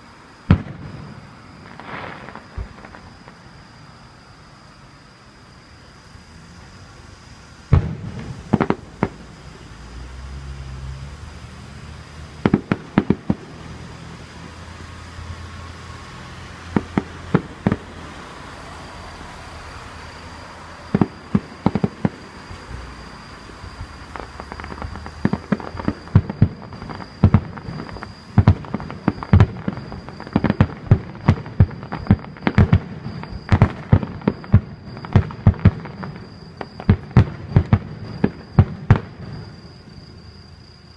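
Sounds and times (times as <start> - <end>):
fireworks banging: 0.4 - 3.5, 7.7 - 10.1, 11.3 - 40.2.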